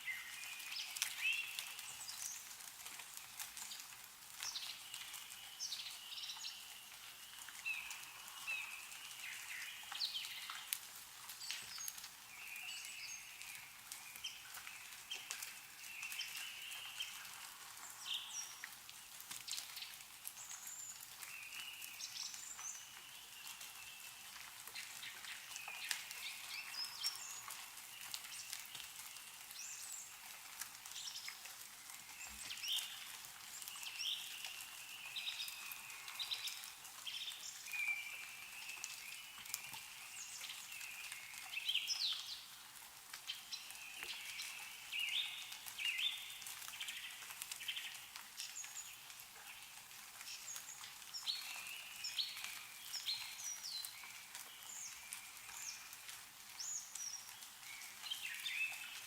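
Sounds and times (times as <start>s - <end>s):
meltwater dripping: 0.0s - 59.0s
songbirds chirping: 0.0s - 59.0s.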